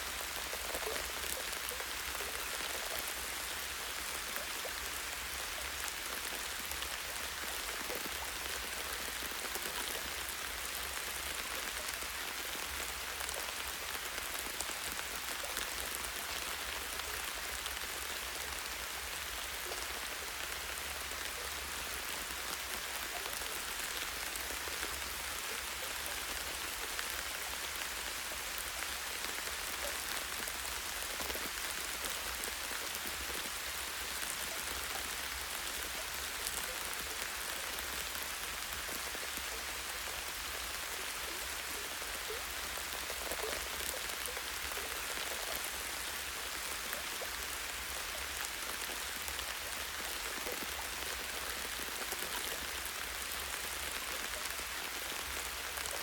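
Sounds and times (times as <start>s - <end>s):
light rain on leaves: 0.0s - 56.0s.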